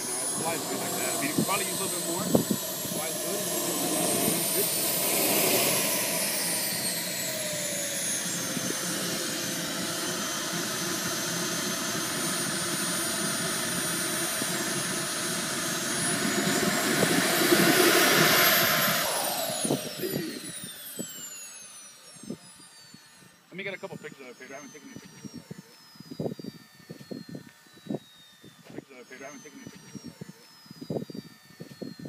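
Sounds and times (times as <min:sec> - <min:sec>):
gas turbine whining: 0:00.0 - 0:32.0.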